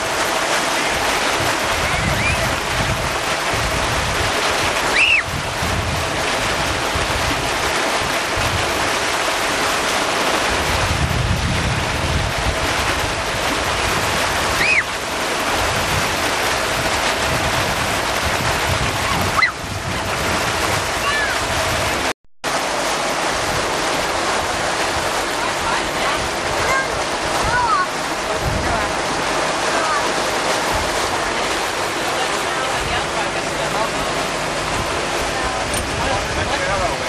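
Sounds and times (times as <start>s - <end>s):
wind buffeting microphone: 0.0s - 9.0s, 10.4s - 22.1s, 23.1s - 37.0s
water rushing past hull: 0.0s - 37.0s.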